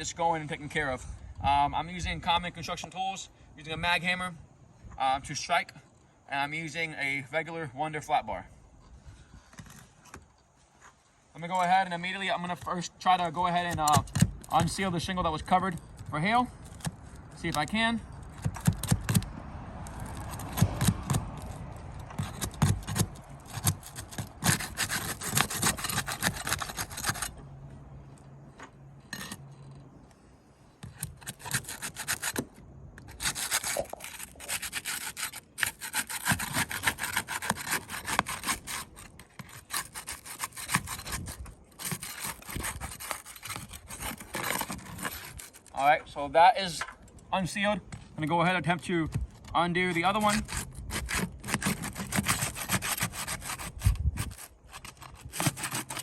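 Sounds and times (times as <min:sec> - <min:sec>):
pry bar scraping shingle: 0:08.8 - 0:56.0.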